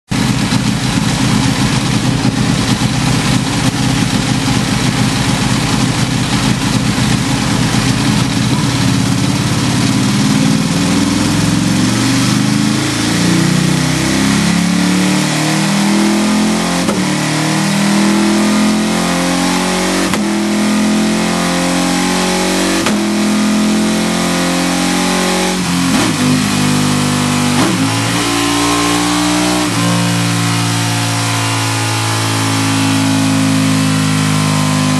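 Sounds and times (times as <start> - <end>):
motorcycle engine revving on dyno: 0.1 - 34.9.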